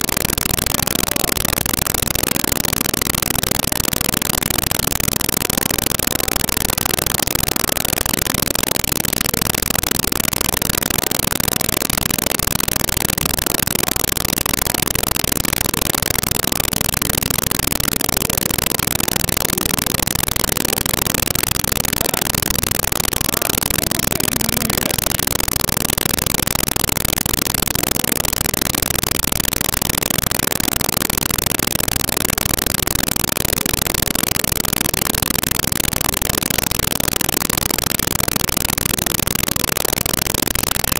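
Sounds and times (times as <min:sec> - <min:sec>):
loud static hiss: 0:00.0 - 0:34.9.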